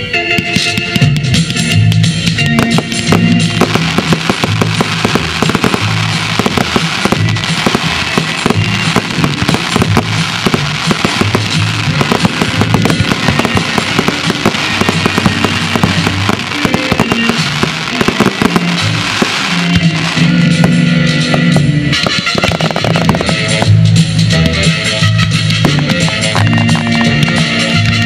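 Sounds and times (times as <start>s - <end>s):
music playing: 0.0s - 28.0s
fireworks bangs and crackles: 0.4s - 28.0s.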